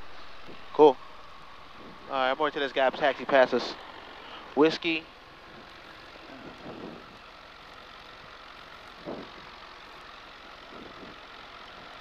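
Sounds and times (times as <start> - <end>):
piston engine idling: 0.0 - 12.0.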